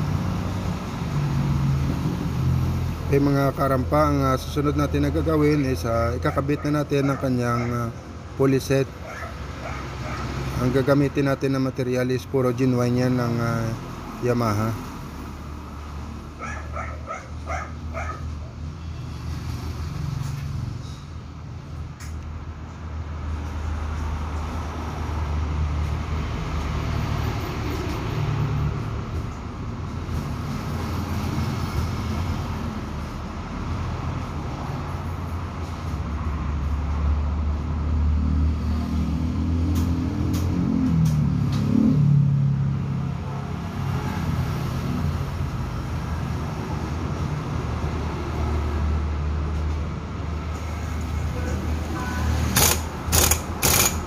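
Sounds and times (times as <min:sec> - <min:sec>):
low hum of vehicle engine: 0:00.0 - 0:54.0.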